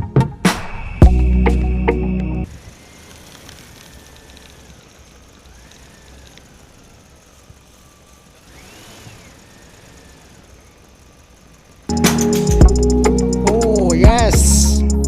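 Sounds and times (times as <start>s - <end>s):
low hum: 0.6s - 15.0s
small electric motor whining: 1.0s - 13.8s.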